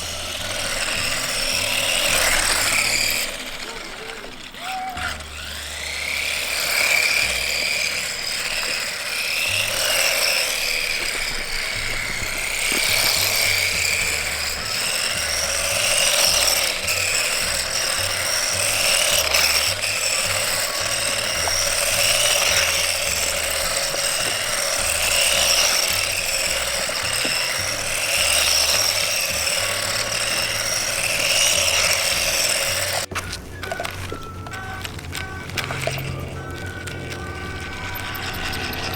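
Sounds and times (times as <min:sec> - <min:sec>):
toy truck motor whining: 0:00.0 - 0:38.9.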